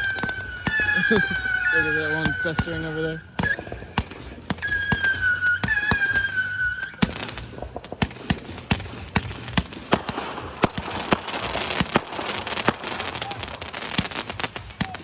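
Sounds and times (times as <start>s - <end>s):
firework whistle: 0.0s - 15.0s
fireworks bangs: 0.0s - 15.0s
fireworks crackling: 0.0s - 15.0s.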